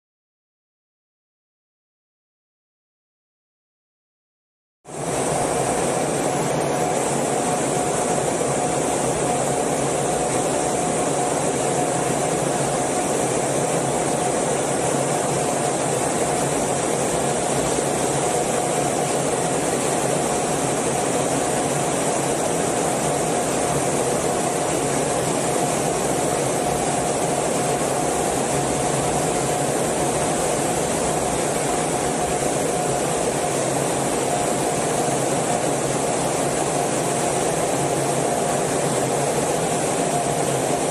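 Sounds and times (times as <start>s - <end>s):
jet engine noise with steady tone: 4.9s - 40.9s
rush of airflow: 4.9s - 40.9s.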